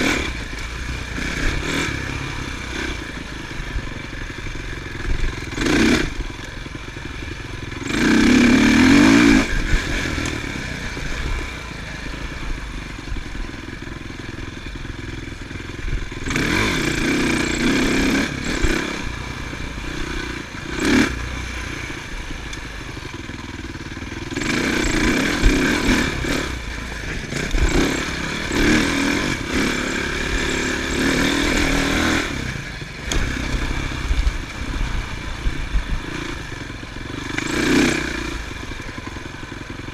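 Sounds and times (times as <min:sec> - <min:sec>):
motocross bikes revving past: 0:00.0 - 0:03.8, 0:04.9 - 0:06.3, 0:07.8 - 0:12.6, 0:16.0 - 0:22.5, 0:24.1 - 0:39.9.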